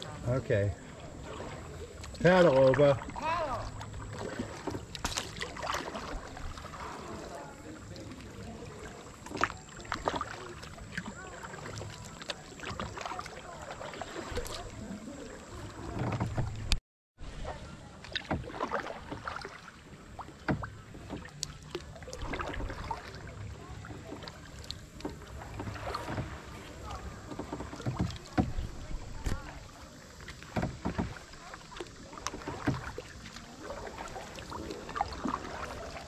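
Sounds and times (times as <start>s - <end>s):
paddle blades splashing: 0.0s - 36.0s
water lapping on plastic hull: 0.0s - 36.0s.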